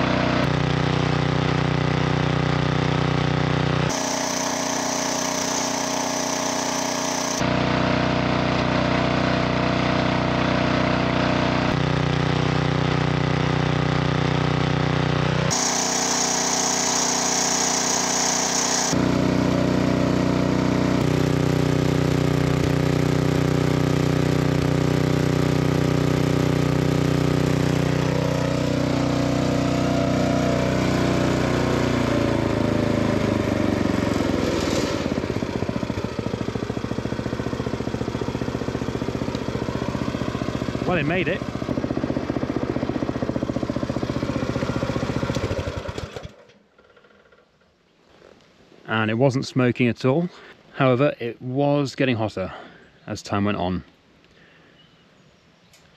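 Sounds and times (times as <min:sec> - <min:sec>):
small engine running: 0:00.0 - 0:47.5.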